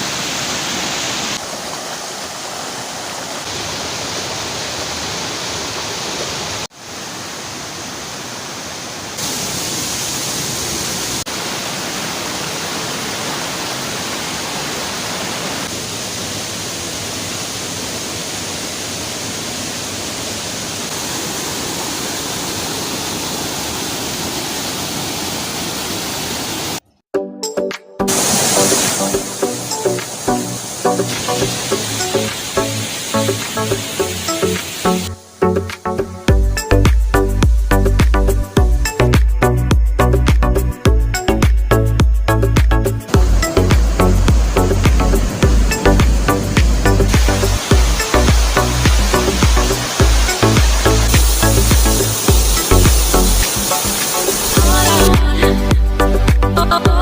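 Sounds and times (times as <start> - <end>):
waterfall and river rushing: 0.0 - 26.8, 28.1 - 36.3, 42.3 - 57.0.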